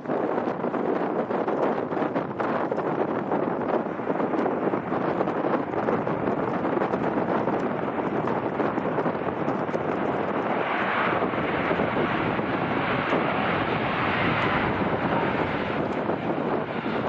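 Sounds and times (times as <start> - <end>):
passing airplane: 0.0 - 17.0
wind buffeting microphone: 0.0 - 17.0.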